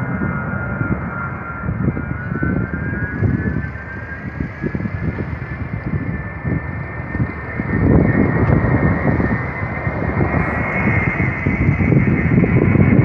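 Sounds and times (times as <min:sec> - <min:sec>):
jet aircraft flying overhead: 0:00.0 - 0:13.0.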